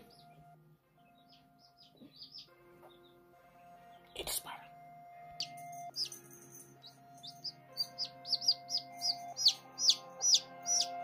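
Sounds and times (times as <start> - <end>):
baby chick peeping: 0.0 - 11.0
soft background music: 0.0 - 11.0.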